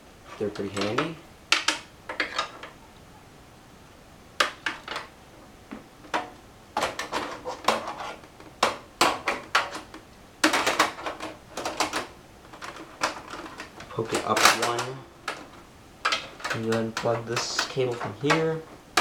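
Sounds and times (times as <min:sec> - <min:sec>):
computer parts clicking and clattering: 0:00.3 - 0:02.8, 0:04.4 - 0:19.0.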